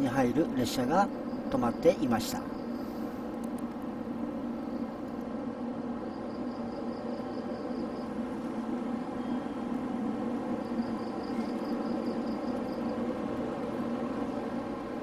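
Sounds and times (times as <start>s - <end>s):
insect chirping in fast pulses: 0.0s - 15.0s
train machine hum: 0.0s - 15.0s.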